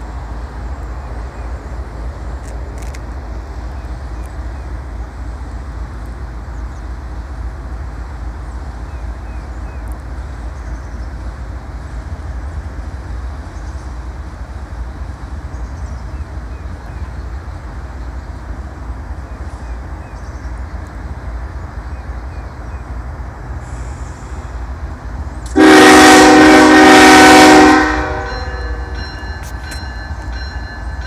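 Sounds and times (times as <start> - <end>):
distant locomotives rumbling: 0.0 - 31.0.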